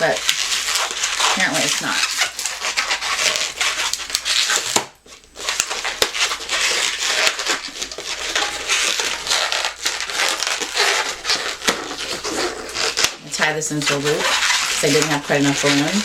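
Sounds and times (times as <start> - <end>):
balloon rubbing and squeaking: 0.0 - 16.0.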